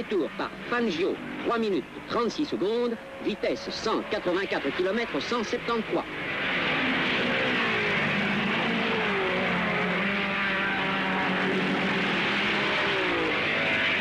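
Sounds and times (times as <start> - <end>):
racing car engines passing: 0.0 - 14.0.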